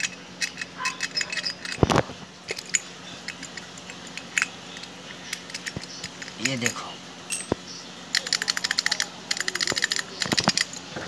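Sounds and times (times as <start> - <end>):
padlock and key jingling: 0.0 - 10.9.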